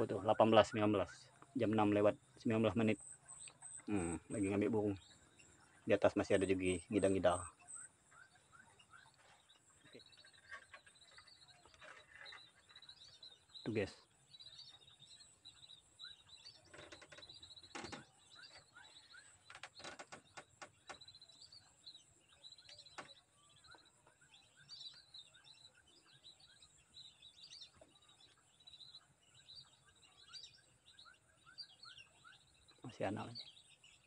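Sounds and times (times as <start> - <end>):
bird chirps and whistled calls: 0.0 - 34.0.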